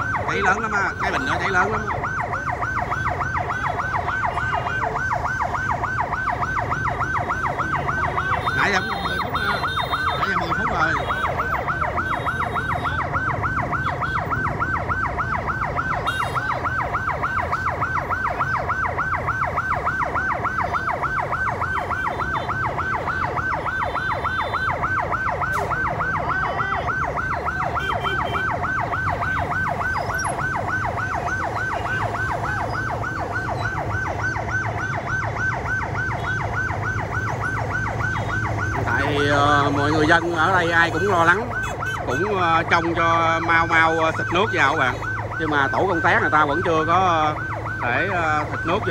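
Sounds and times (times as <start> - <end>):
fire truck siren yelping: 0.0 - 48.9.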